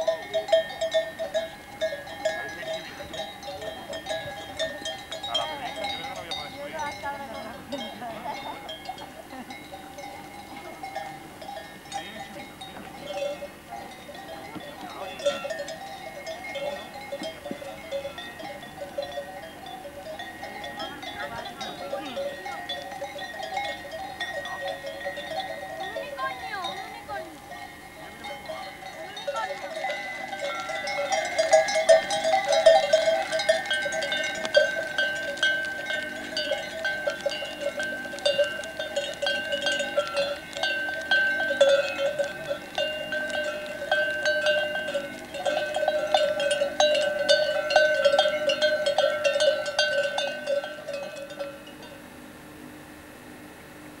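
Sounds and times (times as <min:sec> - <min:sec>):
goat bells clanking: 0:00.0 - 0:52.1.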